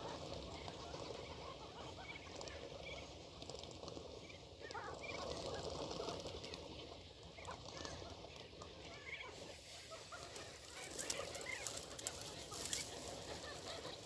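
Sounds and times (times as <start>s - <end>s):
flock of birds gurgling calls: 0.0s - 14.0s.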